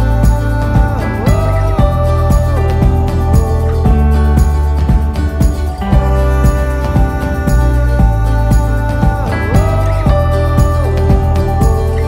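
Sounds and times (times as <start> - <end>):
music with heavy bass beat: 0.0 - 12.0.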